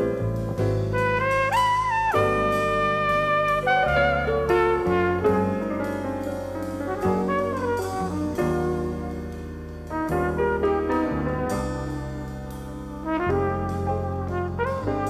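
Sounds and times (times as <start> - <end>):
double bass: 0.0 - 15.0
drums: 0.0 - 15.0
flugelhorn melody: 0.0 - 15.0
piano: 0.0 - 15.0.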